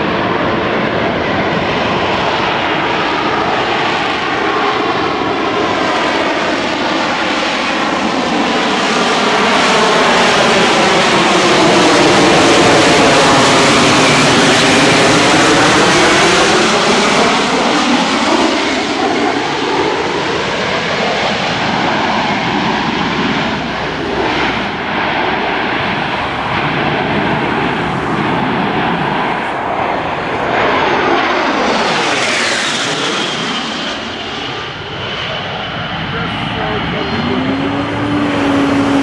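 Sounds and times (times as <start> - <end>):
jet engine passing overhead: 0.0 - 39.0.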